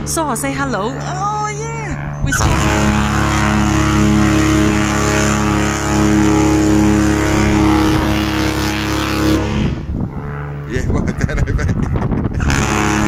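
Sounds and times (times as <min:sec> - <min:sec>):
ship horn blast: 0:00.0 - 0:11.5, 0:12.4 - 0:13.0.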